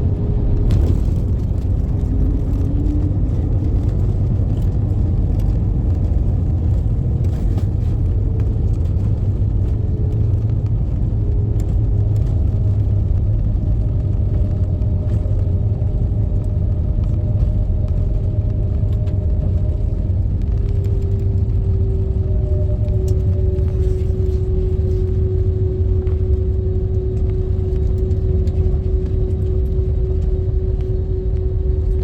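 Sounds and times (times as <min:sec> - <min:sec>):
airliner cabin rumble: 0:00.0 - 0:32.0
faint hum tones: 0:00.0 - 0:32.0.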